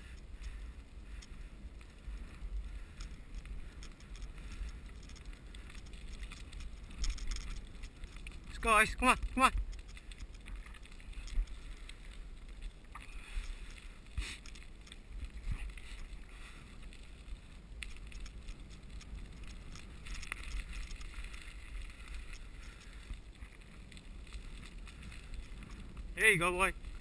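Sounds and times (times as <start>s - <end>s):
light clicks and rattles: 0.0s - 27.0s
wind rumble on microphone: 0.0s - 27.0s.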